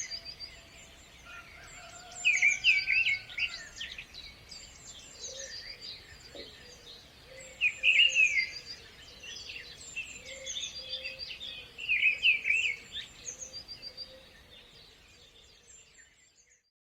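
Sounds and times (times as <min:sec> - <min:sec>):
songbirds chirping: 0:00.0 - 0:16.7.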